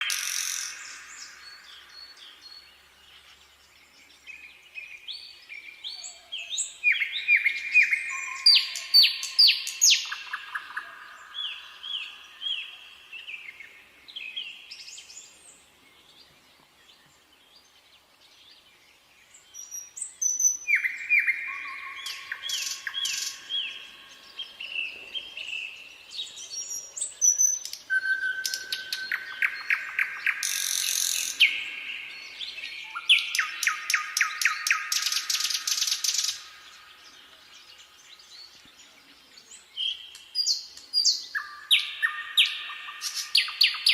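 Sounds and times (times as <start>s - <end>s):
nightingale singing: 0.0s - 43.9s.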